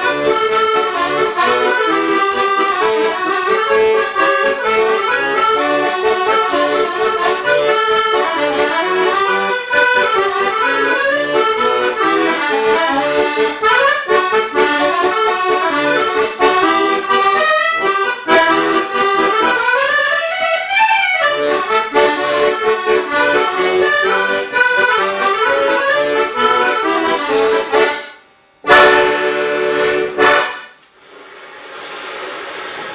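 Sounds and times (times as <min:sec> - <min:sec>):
lively accordion music: 0:00.0 - 0:30.8.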